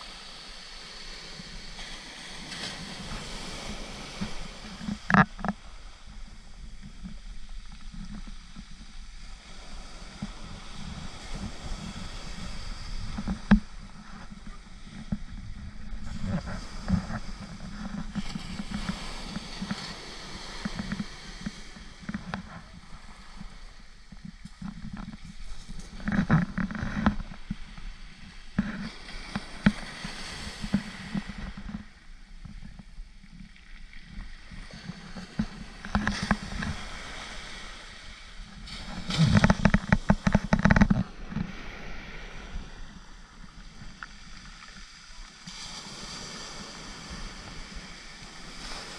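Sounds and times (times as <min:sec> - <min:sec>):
small waves on shingle beach: 0:00.0 - 0:48.9
wind rumbling on microphone: 0:00.0 - 0:48.9.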